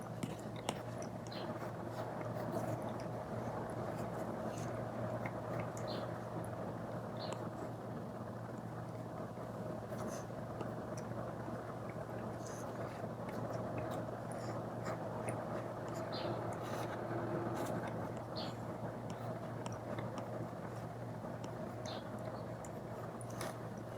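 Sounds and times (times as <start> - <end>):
low background hum: 0.0 - 23.9.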